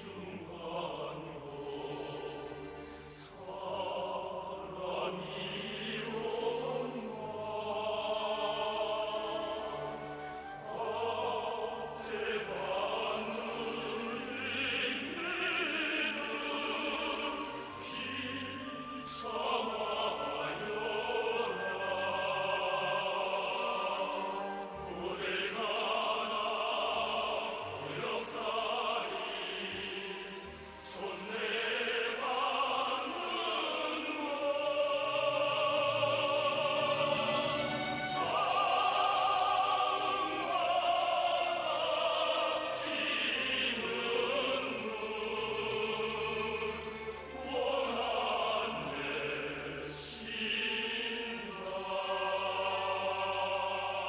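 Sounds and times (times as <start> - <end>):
operatic singing: 0.0 - 54.0
orchestral accompaniment: 0.0 - 54.0.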